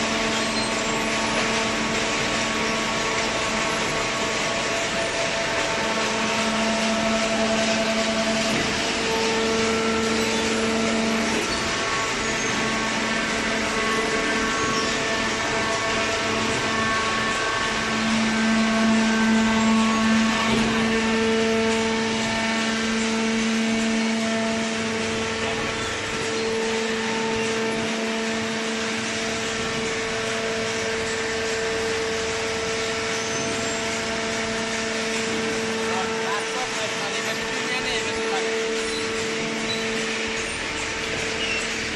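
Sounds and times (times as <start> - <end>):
hydraulic hum and whine: 0.0 - 41.9.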